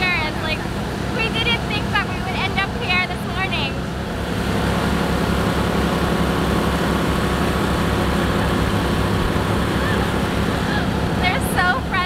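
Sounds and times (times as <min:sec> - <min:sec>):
motorboat engine running: 0:00.0 - 0:12.0
wind and water rushing: 0:00.0 - 0:12.0.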